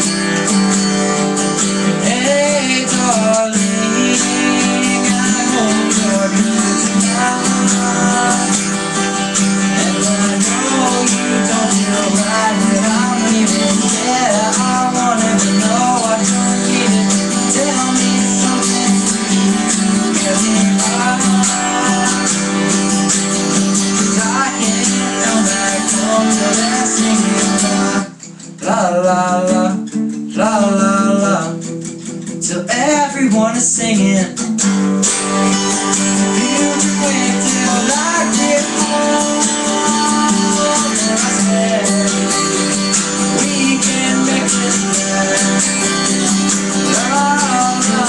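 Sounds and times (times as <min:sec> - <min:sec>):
person singing: 0:00.0 - 0:31.7, 0:32.3 - 0:34.5, 0:35.3 - 0:48.0
acoustic guitar strumming: 0:00.0 - 0:48.0.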